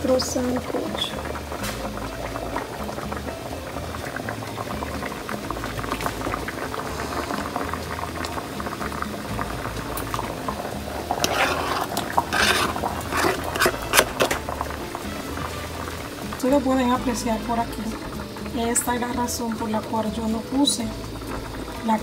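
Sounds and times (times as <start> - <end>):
stew boiling and bubbling: 0.0 - 22.0
food splashing into broth: 0.2 - 19.7.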